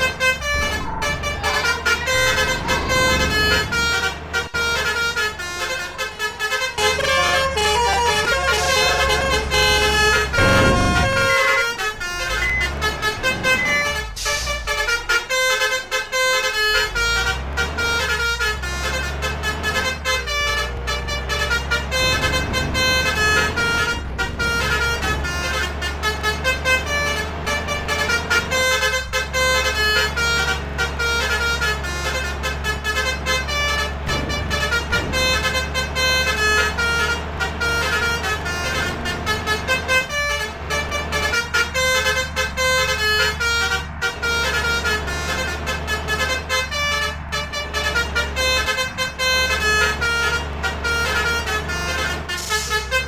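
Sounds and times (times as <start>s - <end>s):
low engine rumble: 0.0s - 53.0s
truck air horns playing melody: 0.0s - 53.0s.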